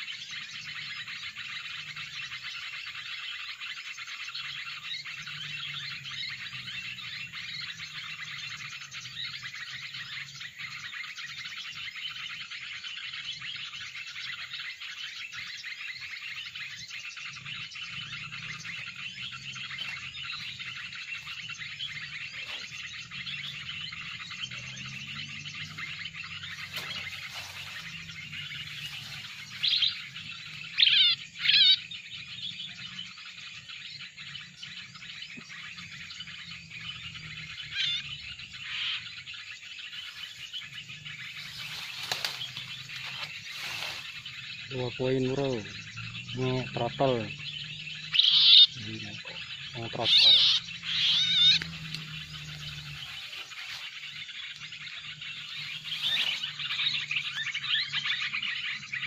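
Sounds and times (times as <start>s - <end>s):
loud bird calls sliding downward: 0.0s - 31.9s, 35.0s - 59.0s
dense bird chirping: 0.0s - 59.0s.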